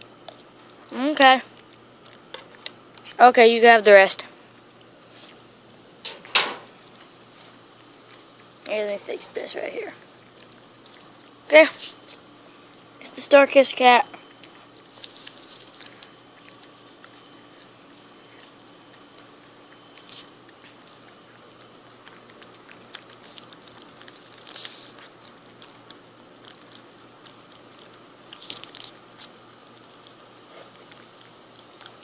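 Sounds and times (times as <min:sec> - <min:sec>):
cat chewing and licking: 0:00.0 - 0:03.4, 0:06.8 - 0:13.5, 0:14.1 - 0:32.0.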